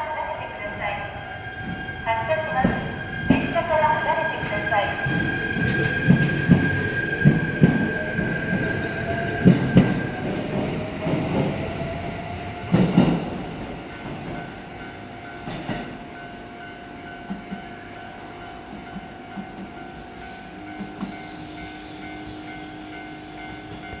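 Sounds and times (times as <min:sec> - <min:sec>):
electric train whine: 0:00.0 - 0:24.0.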